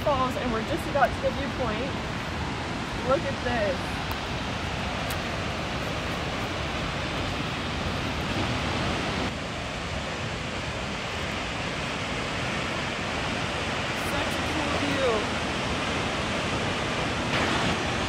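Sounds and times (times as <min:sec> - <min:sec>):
waterfall rushing hiss: 0:00.1 - 0:18.0.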